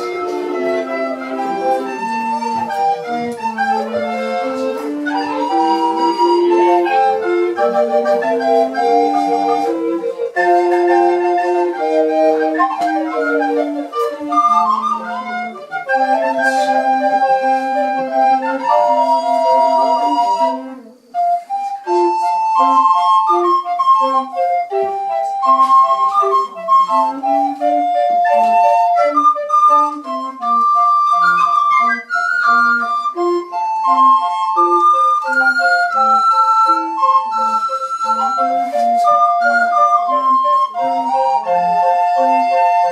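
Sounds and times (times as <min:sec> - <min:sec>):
recorder ensemble playing: 0:00.0 - 0:42.9.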